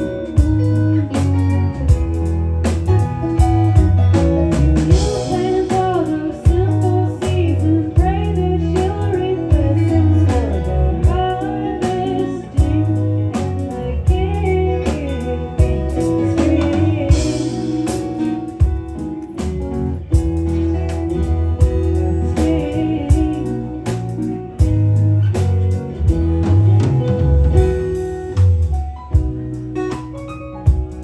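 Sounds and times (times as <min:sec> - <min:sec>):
band playing a song: 0:00.0 - 0:31.0
bass line: 0:00.0 - 0:31.0
guitars: 0:00.0 - 0:31.0.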